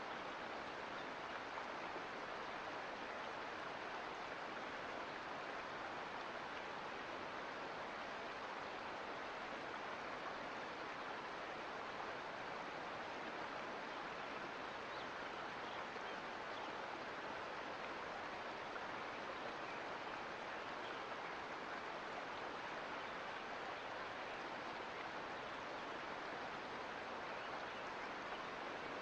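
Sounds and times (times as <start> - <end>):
creek water splashing over rocks: 0.0 - 29.0.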